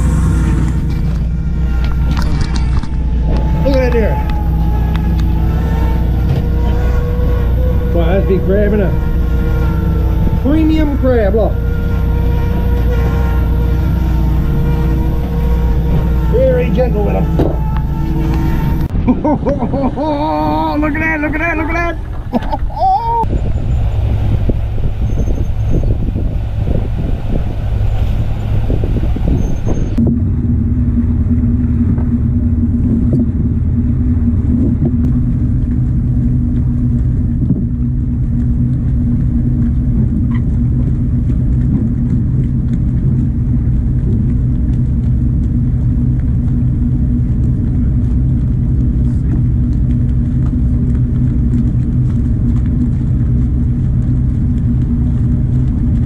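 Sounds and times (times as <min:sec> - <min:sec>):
boat engine running: 0:00.0 - 0:56.0
rushing wind: 0:00.0 - 0:56.0
water noise: 0:00.0 - 0:56.0.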